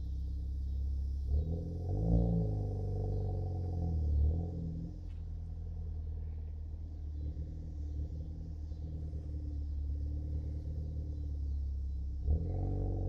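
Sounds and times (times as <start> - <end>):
car engine idle rumble: 0.0 - 13.0.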